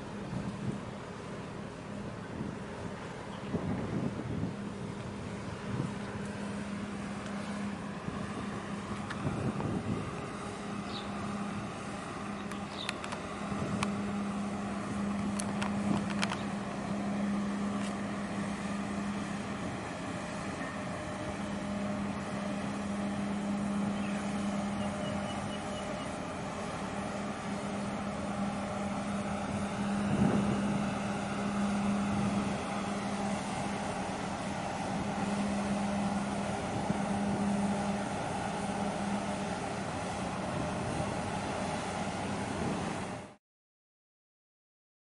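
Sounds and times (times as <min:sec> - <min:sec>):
ship engine drone: 0:00.0 - 0:43.4
wind and water hiss: 0:00.0 - 0:43.4.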